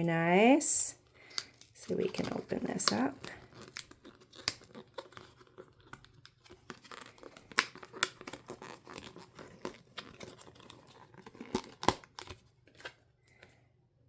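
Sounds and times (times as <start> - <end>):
packaging tearing and crinkling: 1.2 - 13.0.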